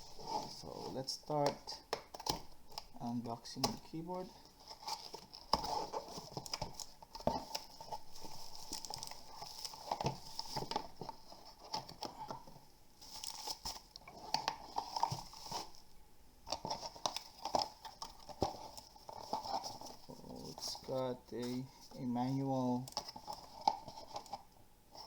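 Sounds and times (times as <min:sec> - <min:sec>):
packaging crinkling and rustling: 0:00.0 - 0:24.5.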